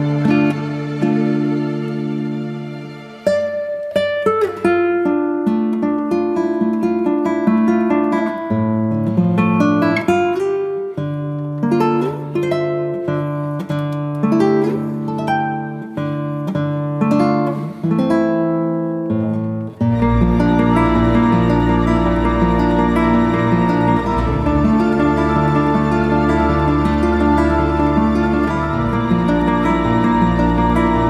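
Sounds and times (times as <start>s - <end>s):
acoustic guitar plucked notes: 0.0s - 31.0s.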